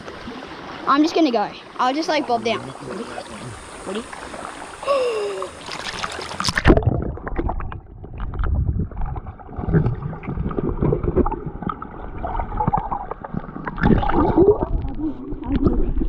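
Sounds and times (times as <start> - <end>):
underwater creek water gurgling: 0.0 - 16.0.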